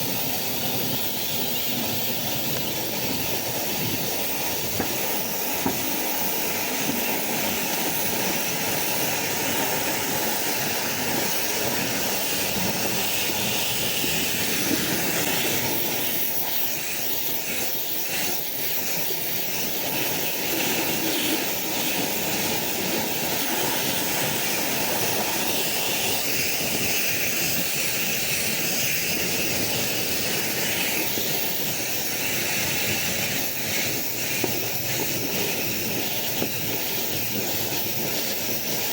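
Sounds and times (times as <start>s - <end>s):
pressure washer water jet hissing: 0.0s - 38.9s.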